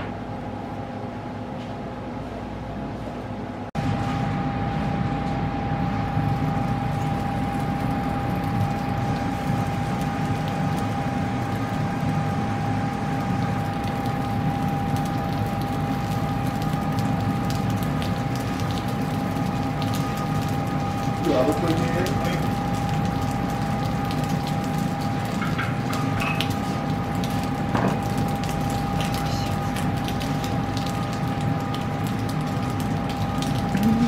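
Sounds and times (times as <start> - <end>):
steady hum with whine: 0.0 - 34.0
food sizzling on grill: 6.3 - 34.0.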